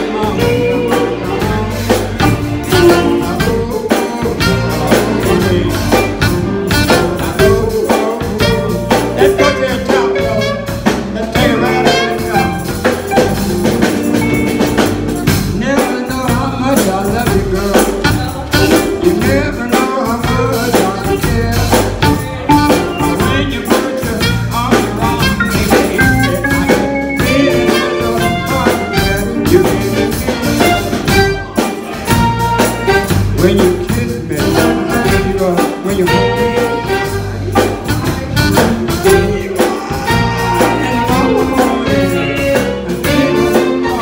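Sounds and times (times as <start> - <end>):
saxophone: 0.0 - 15.4, 18.0 - 19.5, 20.3 - 44.0
bass guitar: 0.0 - 44.0
drum kit beat: 0.0 - 44.0
electric guitar: 0.0 - 44.0
electric keyboard: 0.0 - 44.0.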